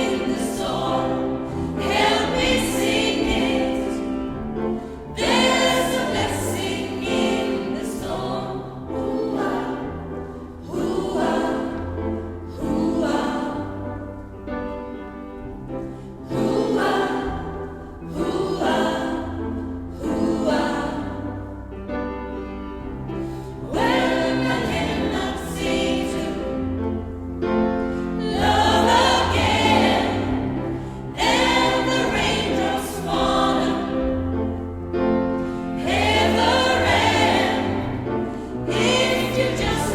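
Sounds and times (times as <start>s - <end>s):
gospel choir singing: 0.0s - 39.9s
steady bass accompaniment: 0.0s - 39.9s.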